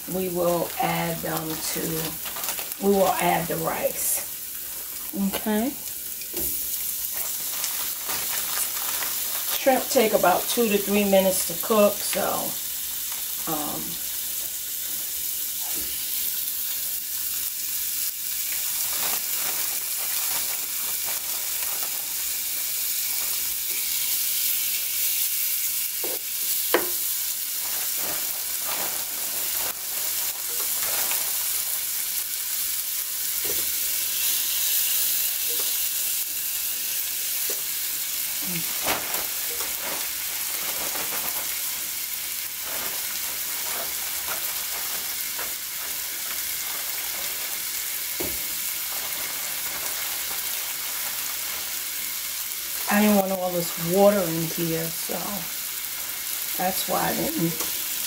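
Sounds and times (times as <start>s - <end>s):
shrimp sizzling in hot oil: 0.0s - 58.0s.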